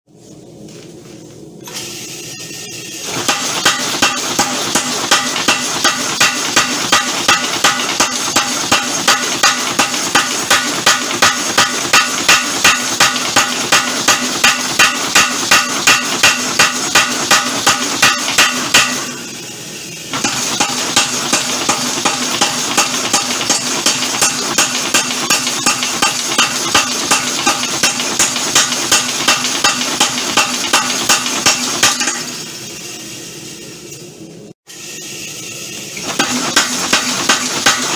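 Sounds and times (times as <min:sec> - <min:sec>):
power hammer striking steel: 0:03.0 - 0:19.3, 0:20.1 - 0:32.4, 0:36.0 - 0:37.9.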